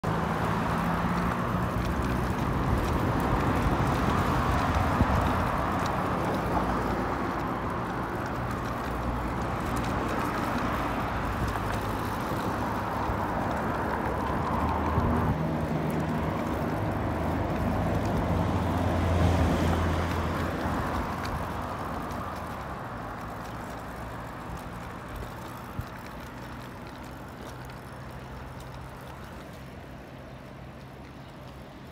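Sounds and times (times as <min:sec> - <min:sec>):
road traffic hum: 0:00.0 - 0:31.9.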